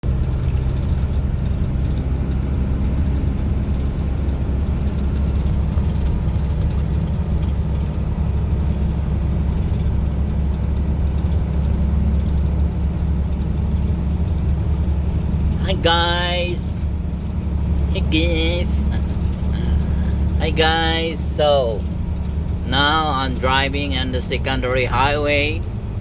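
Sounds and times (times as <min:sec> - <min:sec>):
road noise: 0:00.0 - 0:26.0
truck engine drone: 0:00.0 - 0:26.0.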